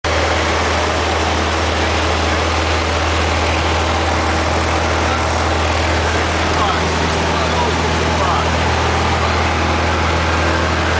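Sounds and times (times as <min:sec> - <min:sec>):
aircraft engine and propeller drone: 0:00.1 - 0:10.9.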